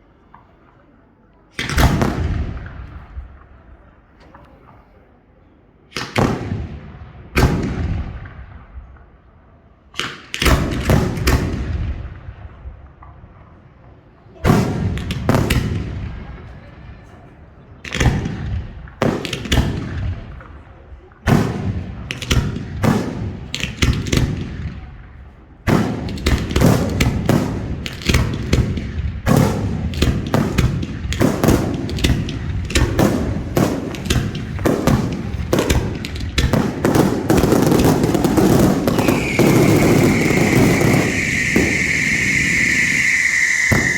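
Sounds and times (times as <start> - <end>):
fireworks bangs with echoes: 1.6 - 4.0, 5.9 - 9.3, 9.9 - 17.2, 17.8 - 43.9.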